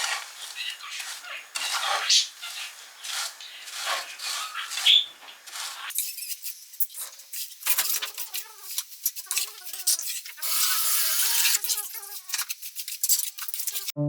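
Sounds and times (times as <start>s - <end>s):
utensil scraping in a pan: 0.0s - 14.0s
utensils clinking and squeaking: 0.0s - 14.0s.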